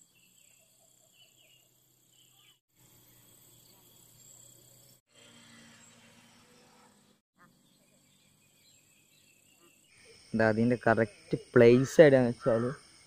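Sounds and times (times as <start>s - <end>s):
faint insect chirps: 0.0s - 13.0s
high insect drone: 0.0s - 13.0s.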